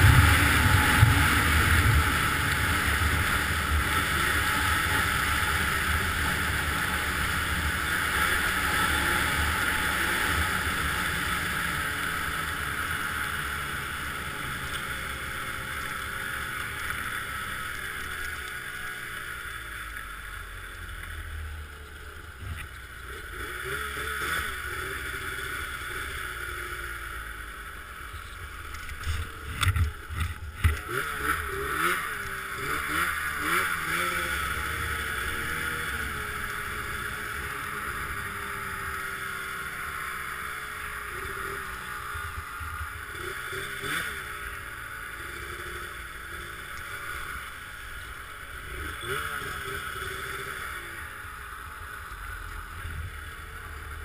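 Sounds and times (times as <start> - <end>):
snowmobile engine and track: 0.0 - 54.0.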